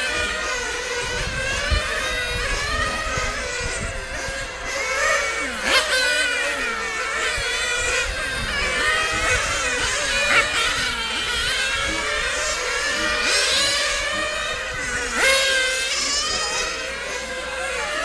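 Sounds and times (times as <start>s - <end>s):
rc car engines whining: 0.0s - 18.0s.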